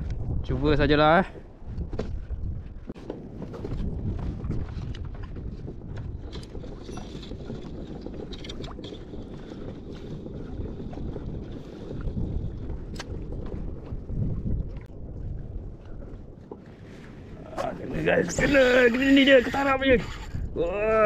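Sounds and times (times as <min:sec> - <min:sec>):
wind buffeting microphone: 0:00.0 - 0:21.0
water slapping kayak hull: 0:01.4 - 0:20.4.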